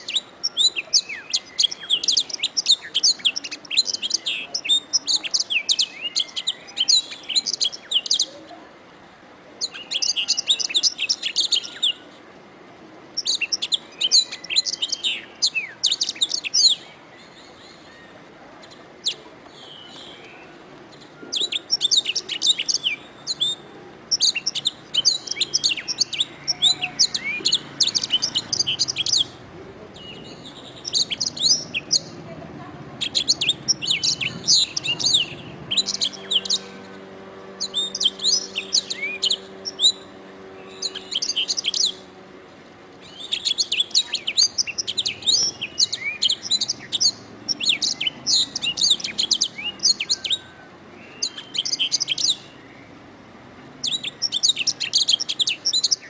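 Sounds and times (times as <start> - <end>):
canary singing: 0.0 - 8.6, 9.6 - 12.2, 13.1 - 56.0.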